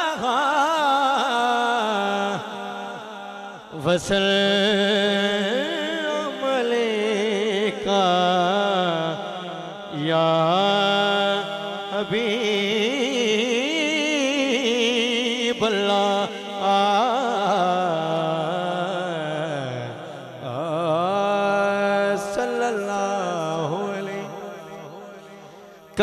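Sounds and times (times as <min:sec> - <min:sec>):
man singing ornamented notes: 0:00.0 - 0:26.0.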